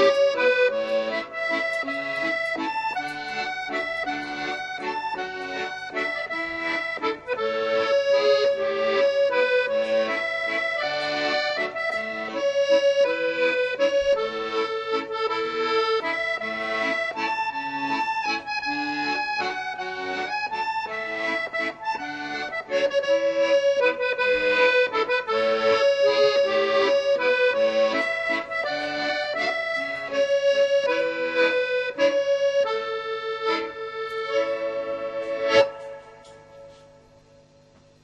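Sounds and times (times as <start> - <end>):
instrumental tune over low drone: 0.0 - 37.6.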